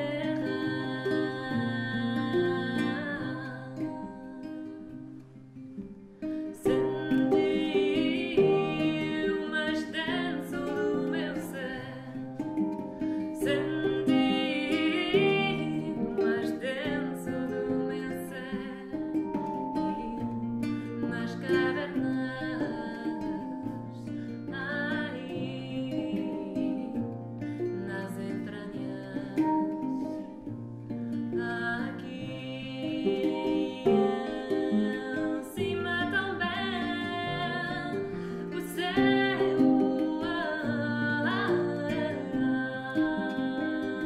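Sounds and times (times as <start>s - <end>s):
woman singing: 0.0s - 5.2s, 6.3s - 44.0s
handpan: 0.0s - 44.0s
plucked string instrument: 0.0s - 44.0s.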